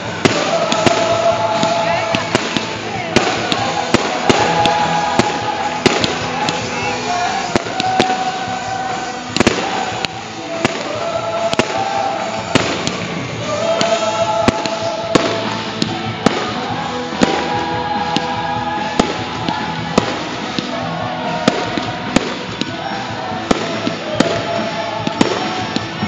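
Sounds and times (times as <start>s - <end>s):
fireworks bursting with bangs: 0.0s - 26.0s
music with long held notes: 0.0s - 26.0s.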